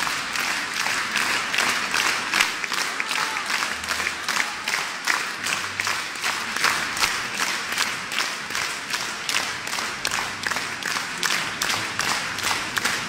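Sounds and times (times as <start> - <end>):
audience applauding: 0.0 - 13.0
rhythmic unison clapping: 0.0 - 13.0.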